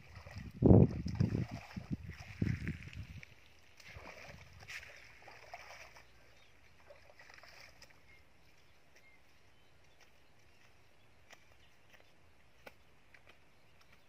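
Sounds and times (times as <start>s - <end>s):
feet splashing through muddy water: 0.0s - 12.0s.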